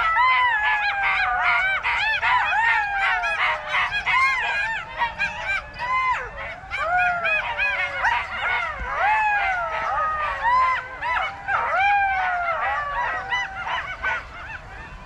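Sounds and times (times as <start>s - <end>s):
jackals howling and yipping: 0.0s - 15.0s.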